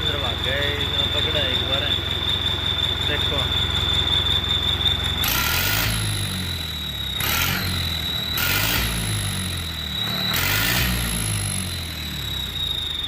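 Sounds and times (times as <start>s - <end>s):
steady high whistle: 0.0s - 13.0s
tractor diesel engine revving: 0.0s - 13.0s.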